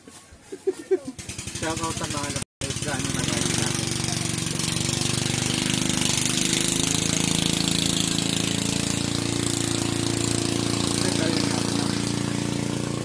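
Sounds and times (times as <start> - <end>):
small engine running: 1.2 - 13.0.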